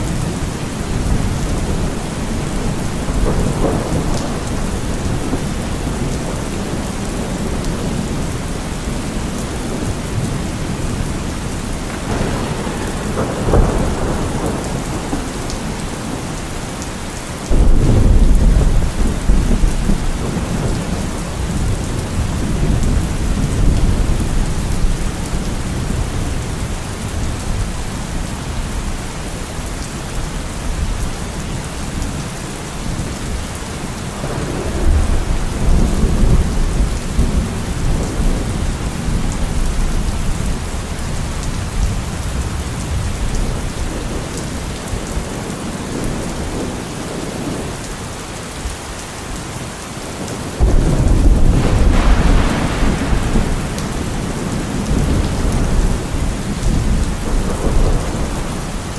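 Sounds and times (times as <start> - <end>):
thunder rumbling and clapping: 0.0 - 28.2, 34.0 - 47.7, 50.2 - 58.9
steady rain: 0.0 - 58.9.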